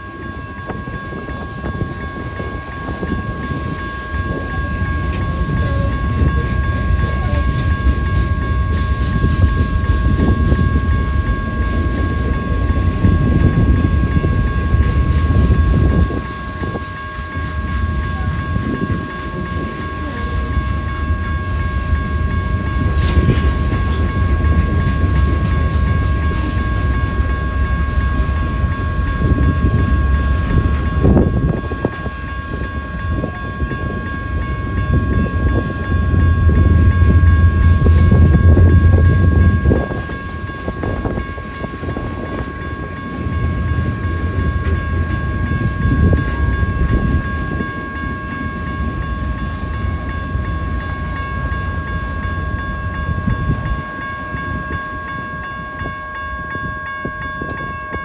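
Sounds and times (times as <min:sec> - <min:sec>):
steady high-pitched tones: 0:00.0 - 0:58.0
train rumbling past: 0:00.0 - 0:58.0.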